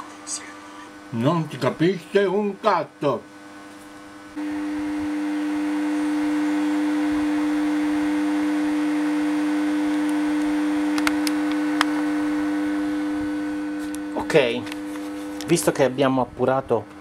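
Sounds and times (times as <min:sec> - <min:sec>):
electrical buzz: 0:00.0 - 0:17.0.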